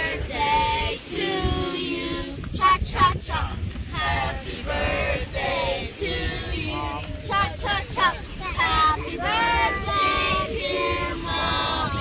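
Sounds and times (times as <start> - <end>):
children and women singing: 0.0 - 12.0.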